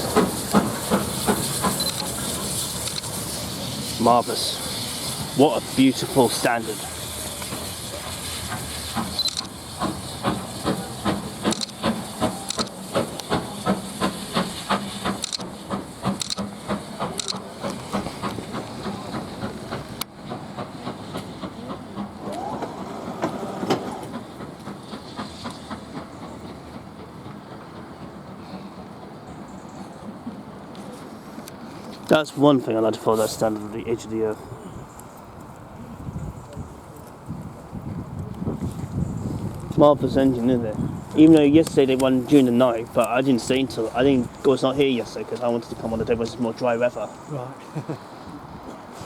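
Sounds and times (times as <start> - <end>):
steam hissing: 0.0 - 49.0
steam locomotive chuffing: 0.0 - 49.0.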